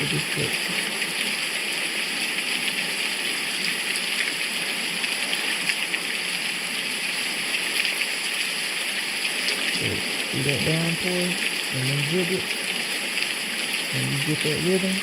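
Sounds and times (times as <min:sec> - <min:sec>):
patter of raindrops: 0:00.0 - 0:15.0
steady downpour of rain: 0:00.0 - 0:15.0.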